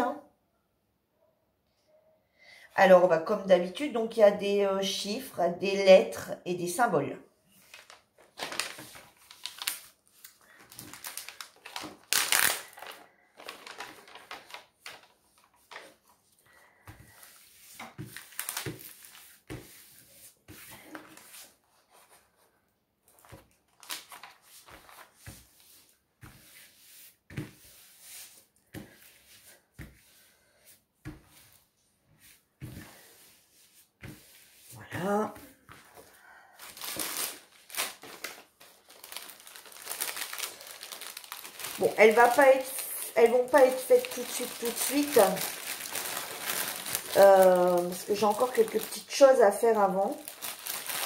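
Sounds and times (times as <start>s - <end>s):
paper sheet rustling: 7.5s - 51.0s.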